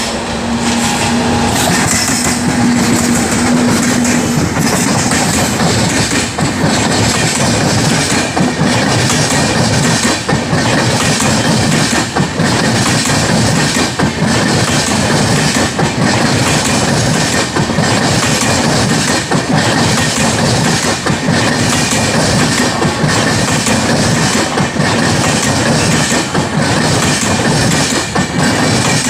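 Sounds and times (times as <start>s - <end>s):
train wheels clattering over rail joints: 0.0s - 29.0s.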